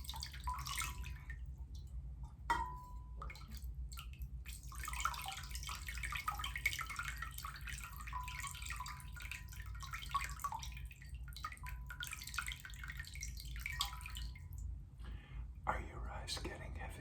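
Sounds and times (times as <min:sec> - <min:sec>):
water splashing and dripping: 0:00.0 - 0:01.9, 0:02.8 - 0:14.7
faint low hum: 0:00.0 - 0:17.0.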